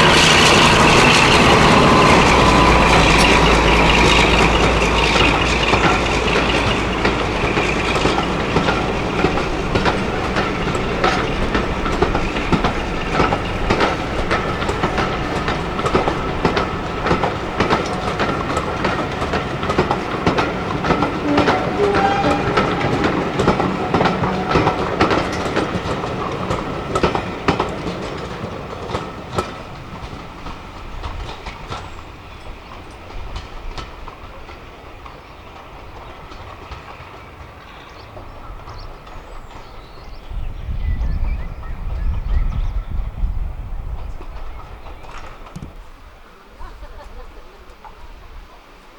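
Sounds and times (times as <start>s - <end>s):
train wheels clicking over rail joints: 0.0s - 48.9s.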